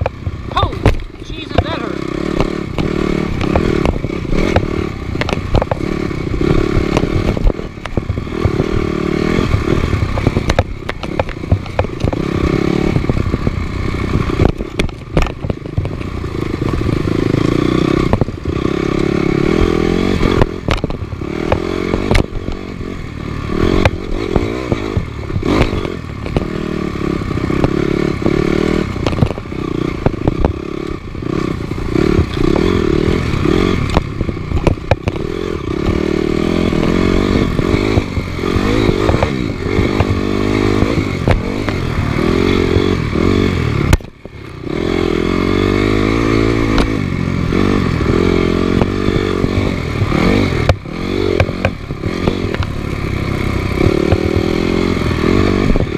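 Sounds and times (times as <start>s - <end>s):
motorcycle engine revving: 0.0s - 55.9s
sharp knocks and rattles: 0.0s - 55.9s.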